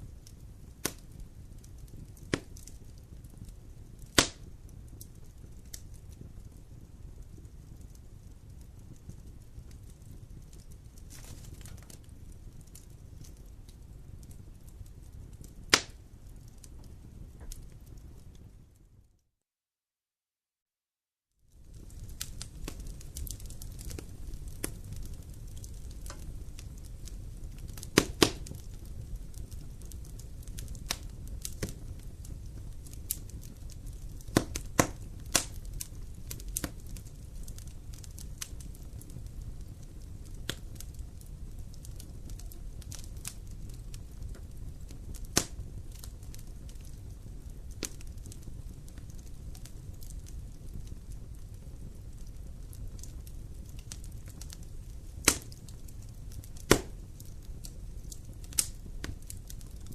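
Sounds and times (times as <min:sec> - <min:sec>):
crackles and pops of burning wood: 0:00.0 - 0:19.0, 0:21.4 - 0:59.9
rumble of campfire flames: 0:00.0 - 0:19.2, 0:21.4 - 0:59.9.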